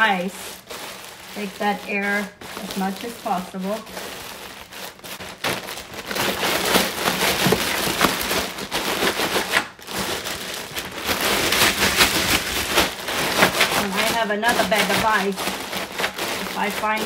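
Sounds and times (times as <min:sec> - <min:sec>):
ice cubes shifting in a bag: 0:00.0 - 0:17.0
plastic bag crinkling: 0:00.0 - 0:17.0.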